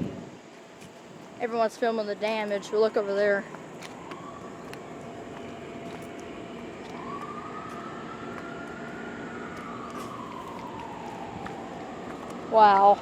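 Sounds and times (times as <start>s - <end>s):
steady background hiss: 0.0s - 13.0s
distant siren wailing: 1.2s - 13.0s.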